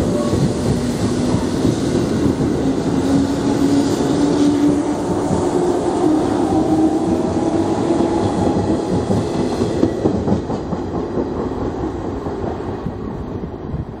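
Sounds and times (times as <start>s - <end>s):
train rail running noise: 0.0s - 14.0s.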